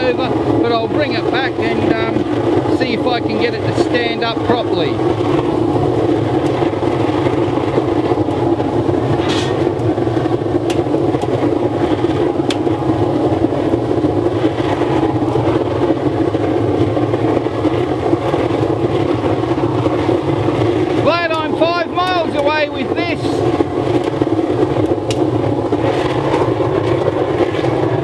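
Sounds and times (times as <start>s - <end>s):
burner flame rushing: 0.0s - 28.0s
low hum: 0.0s - 28.0s.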